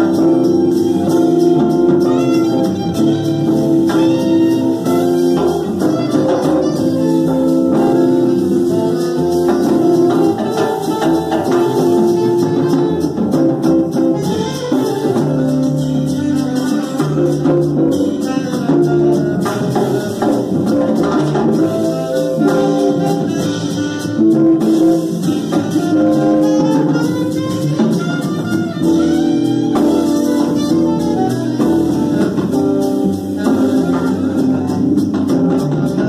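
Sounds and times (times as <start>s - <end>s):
alto saxophone melody: 0.0s - 36.0s
drum kit with cymbals: 0.0s - 36.0s
walking upright bass: 0.0s - 36.0s.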